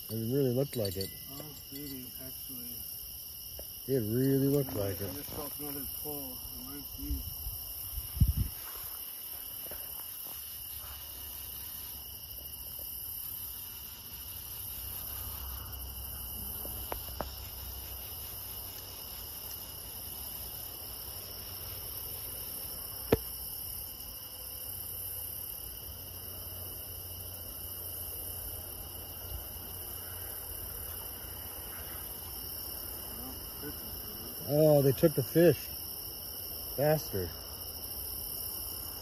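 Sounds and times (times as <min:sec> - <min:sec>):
crickets and insects chirping: 0:00.0 - 0:39.0.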